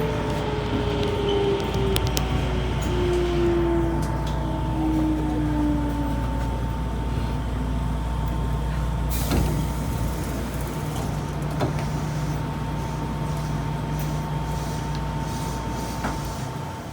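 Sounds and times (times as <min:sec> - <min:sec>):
electric train hum and rumble: 0:00.0 - 0:16.9.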